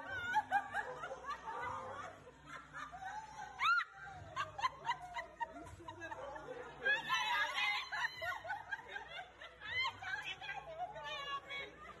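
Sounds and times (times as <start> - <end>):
people giggling: 0.0 - 12.0.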